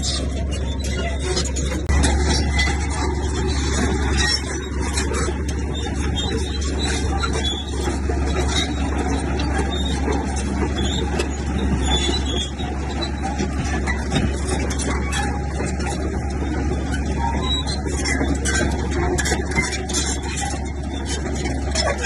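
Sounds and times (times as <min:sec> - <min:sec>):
bulldozer diesel engine running: 0:00.0 - 0:22.0
metal clanks and clatter: 0:00.0 - 0:22.0.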